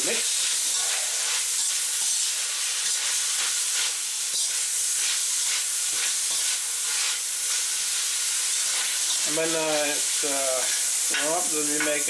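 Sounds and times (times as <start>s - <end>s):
food sizzling in hot oil: 0.0s - 12.0s
utensil scraping wok: 0.0s - 12.0s.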